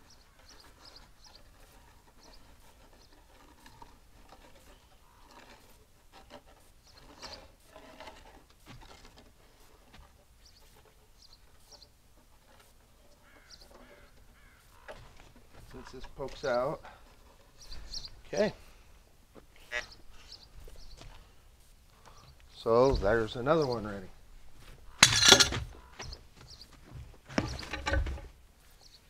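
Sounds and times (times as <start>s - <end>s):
small birds chirping: 0.0s - 5.7s, 6.6s - 7.6s, 9.6s - 27.8s, 28.6s - 29.0s
soft rustles: 0.0s - 29.0s.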